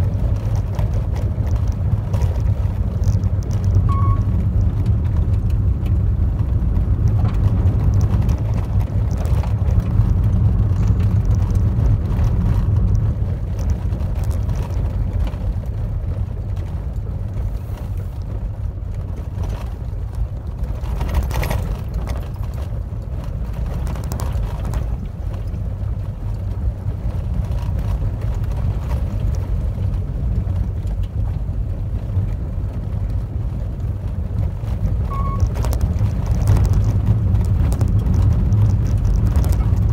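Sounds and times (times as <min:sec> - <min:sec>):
gravel ticking and knocking: 0:00.0 - 0:39.9
tyre and road rumble: 0:00.0 - 0:39.9.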